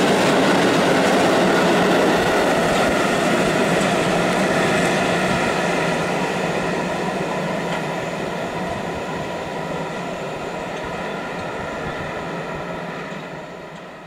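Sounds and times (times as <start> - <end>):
freight train rail rumble: 0.0 - 14.0.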